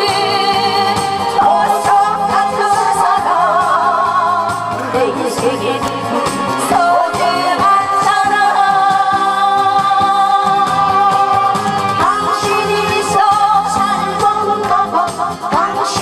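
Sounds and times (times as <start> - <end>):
amplified backing music: 0.0 - 16.0
man and woman singing duet: 0.0 - 16.0.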